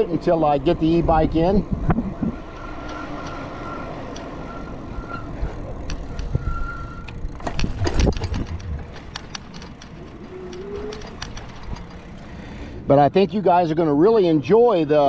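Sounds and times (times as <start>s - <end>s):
bike knocking and rattling: 0.0s - 12.7s
bike tyre and wind rumble: 0.0s - 15.0s
brakes squealing: 0.0s - 15.0s.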